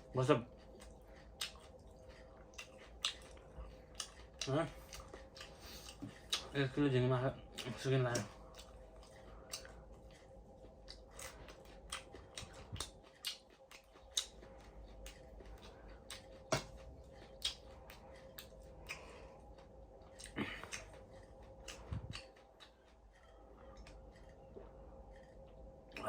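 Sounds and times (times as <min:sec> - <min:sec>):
chewing crunchy shrimp: 0:00.0 - 0:26.0
faint steady hum: 0:00.0 - 0:26.0.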